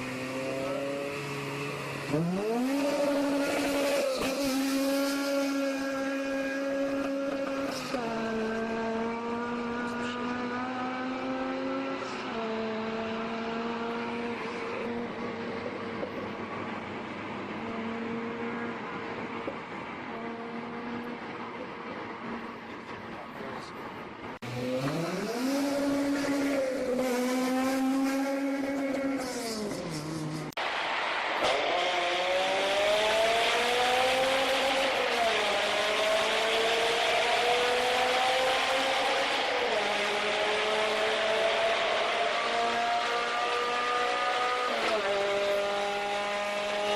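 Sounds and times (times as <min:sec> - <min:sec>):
car engine at high revs: 0:00.0 - 0:46.9.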